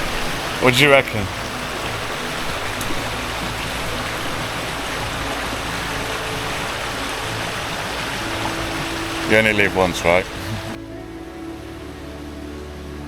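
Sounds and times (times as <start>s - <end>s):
river and waterfall rushing: 0.0s - 13.0s.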